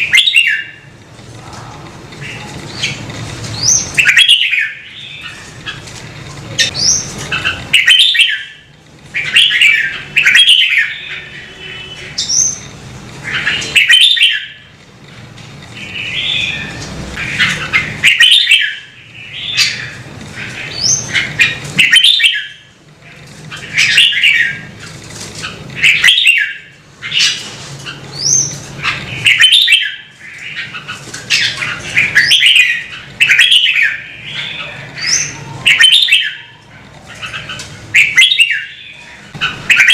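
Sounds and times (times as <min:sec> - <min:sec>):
bulbul singing: 0:00.0 - 0:01.0, 0:02.0 - 0:05.8, 0:06.4 - 0:14.8, 0:15.7 - 0:24.8, 0:25.4 - 0:39.9.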